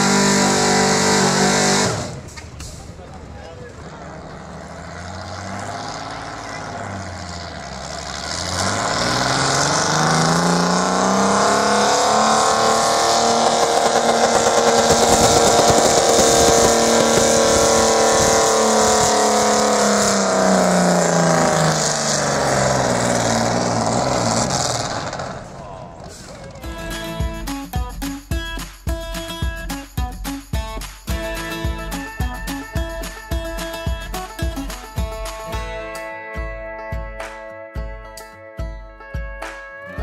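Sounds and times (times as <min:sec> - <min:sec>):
tractor engine revving: 0:00.0 - 0:36.0.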